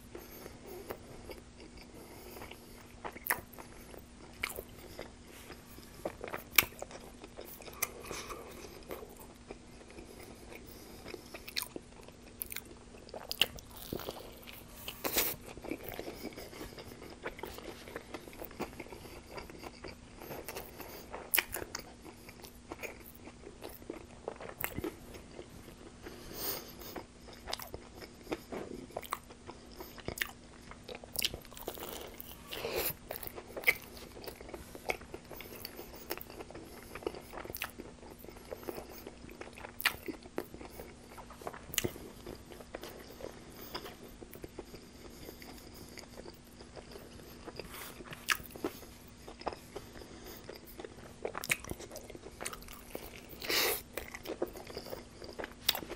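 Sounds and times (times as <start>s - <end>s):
chewing and biting food: 0.1s - 55.9s.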